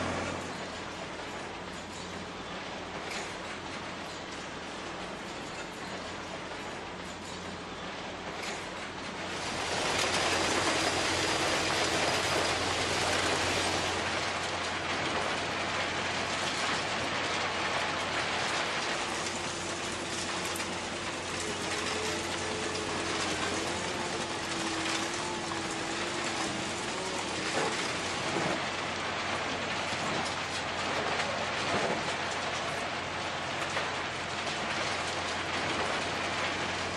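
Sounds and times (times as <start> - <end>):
steady machine noise: 0.0 - 36.9.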